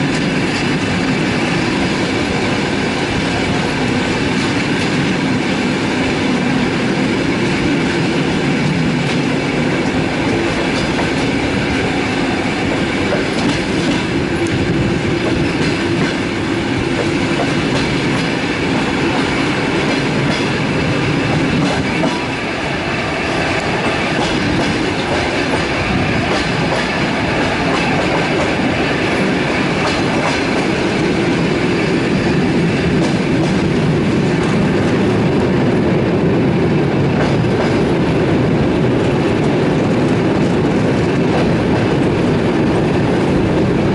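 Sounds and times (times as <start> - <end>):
rail joint clicks: 0.0 - 35.7, 36.9 - 43.9
train wheels rumbling on rails: 0.0 - 43.9.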